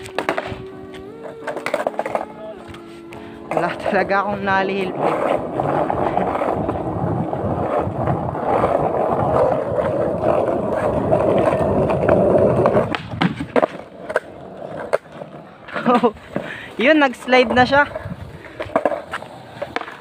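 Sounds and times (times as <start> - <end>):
skateboard wheels on rough concrete: 0.0 - 20.0.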